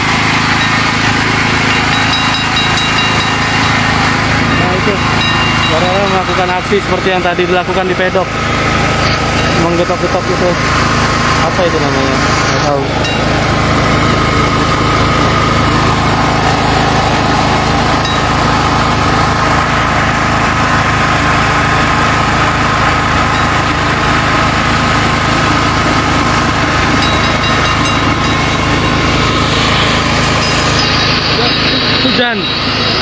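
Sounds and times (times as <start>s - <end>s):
engine drone: 0.0s - 33.0s.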